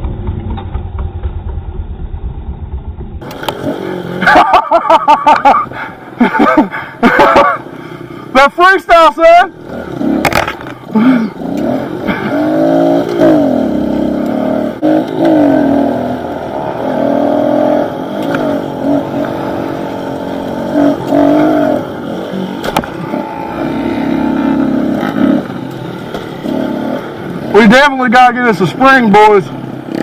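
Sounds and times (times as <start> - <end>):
pit bike engine revving: 3.2 - 8.3, 9.5 - 30.0.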